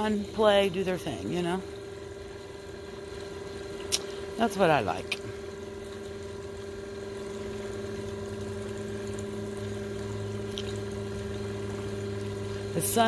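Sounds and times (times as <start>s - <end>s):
pump motor hum: 0.0s - 13.0s.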